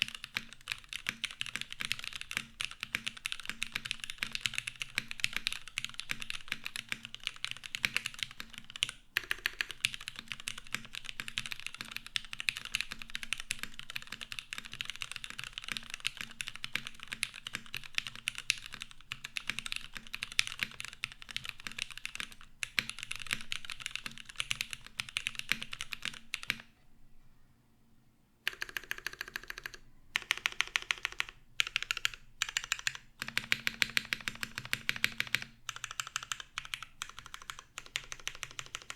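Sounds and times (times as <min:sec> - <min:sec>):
mechanical keyboard typing: 0:00.0 - 0:26.7, 0:28.5 - 0:38.9.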